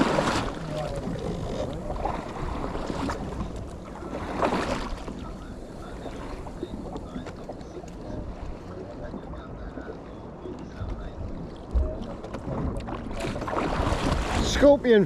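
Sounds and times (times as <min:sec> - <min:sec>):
boat engine hum: 0:00.0 - 0:15.0
water rushing: 0:00.0 - 0:15.0
wind: 0:00.0 - 0:15.0.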